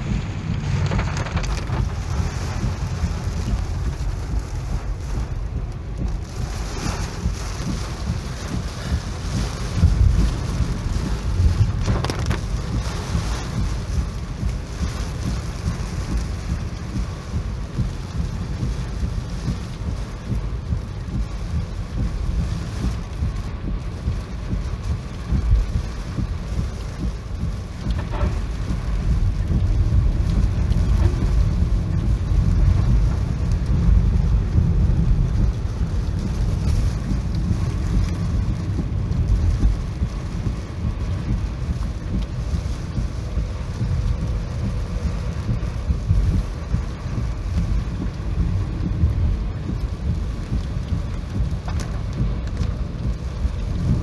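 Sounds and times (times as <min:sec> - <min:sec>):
deep continuous rumble: 0:00.0 - 0:54.0
heavy rain: 0:00.0 - 0:54.0.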